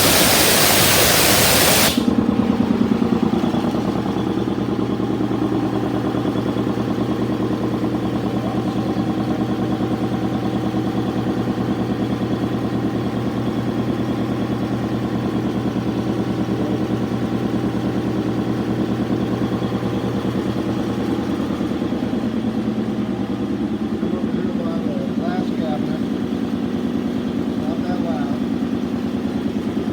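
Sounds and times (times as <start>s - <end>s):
air compressor chugging: 0.0s - 29.9s.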